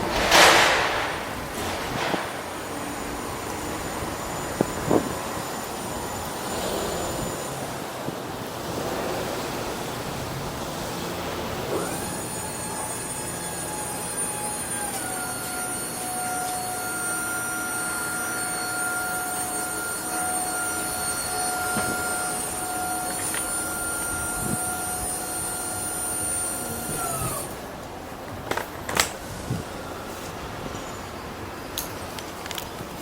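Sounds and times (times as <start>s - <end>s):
machine whining over hum: 0.0s - 31.9s.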